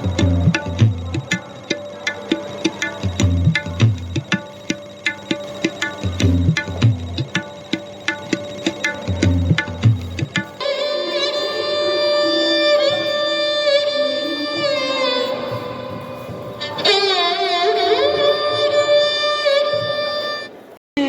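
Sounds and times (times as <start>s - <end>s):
melody of long held notes: 0.0s - 20.8s.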